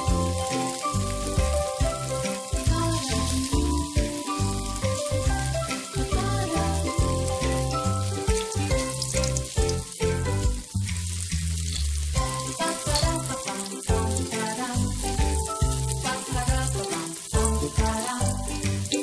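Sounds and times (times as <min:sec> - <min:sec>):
background music with bass: 0:00.0 - 0:19.0
tofu sizzling in oil: 0:00.0 - 0:19.0.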